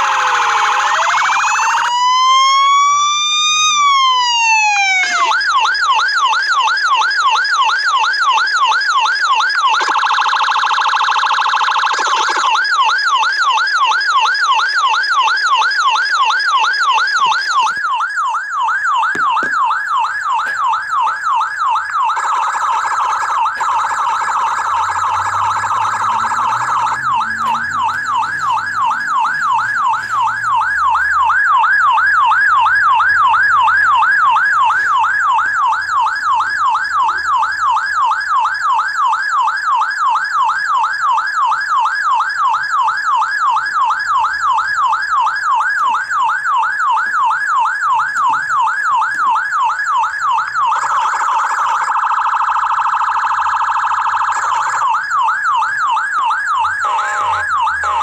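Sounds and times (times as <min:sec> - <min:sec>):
police siren yelping: 0:00.0 - 0:58.0.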